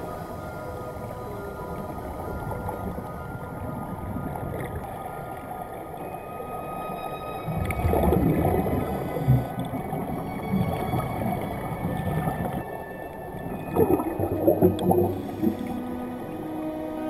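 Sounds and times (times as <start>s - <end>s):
underwater bubbling and rumbling: 0.0s - 17.0s.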